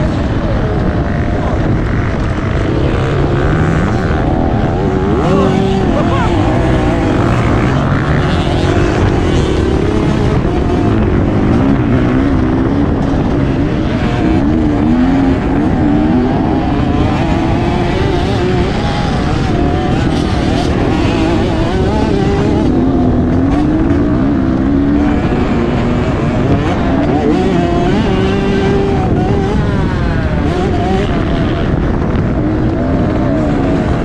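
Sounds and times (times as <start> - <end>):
motocross bike engine revving: 0.0 - 34.0.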